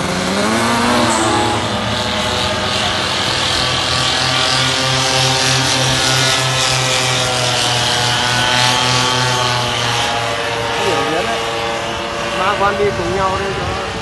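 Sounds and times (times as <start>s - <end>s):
paramotor engine droning: 0.0s - 14.0s.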